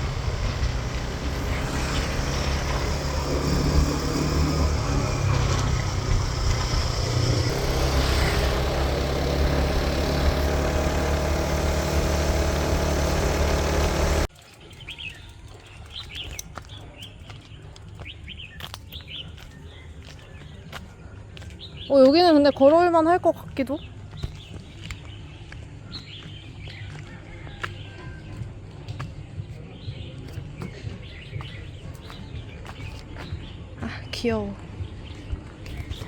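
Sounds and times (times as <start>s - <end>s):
birds chirping: 0.0s - 36.0s
vehicle engine and road noise: 0.0s - 36.0s.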